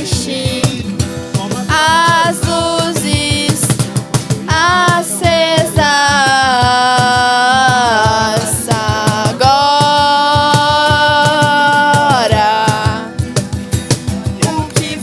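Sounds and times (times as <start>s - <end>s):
rhythmic strumming: 0.0s - 15.0s.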